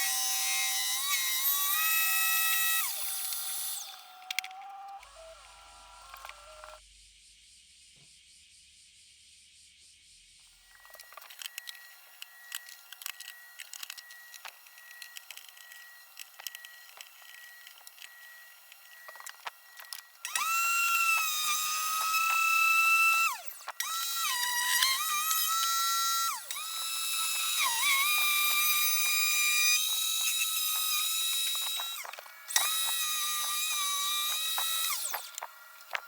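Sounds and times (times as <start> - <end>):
circular saw motor whining: 0.0 - 7.0, 10.6 - 36.0.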